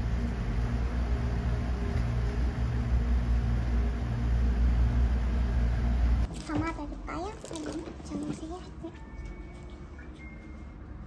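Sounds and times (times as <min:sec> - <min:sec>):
faint hum: 0:00.0 - 0:11.0
low machine rumble: 0:00.0 - 0:11.0.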